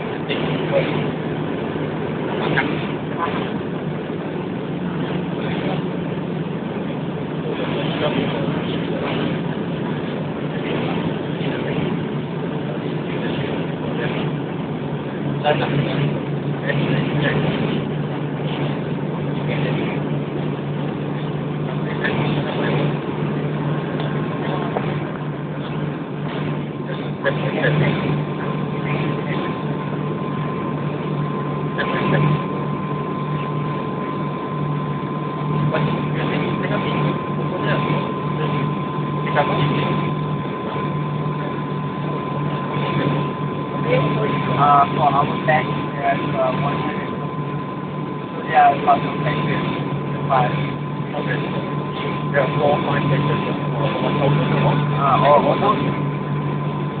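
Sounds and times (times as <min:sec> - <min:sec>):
airliner engine drone: 0:00.0 - 0:57.0.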